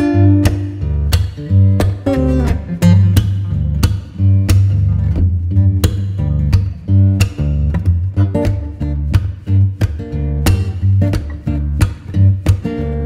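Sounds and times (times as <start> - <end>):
guitar and bass music with beat: 0.0 - 13.0.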